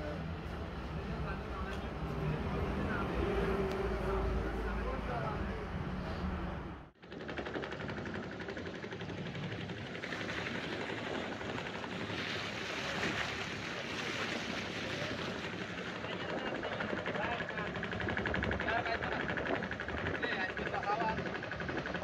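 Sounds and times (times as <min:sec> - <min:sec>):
water rushing along hull: 0:00.0 - 0:06.4, 0:07.0 - 0:22.0.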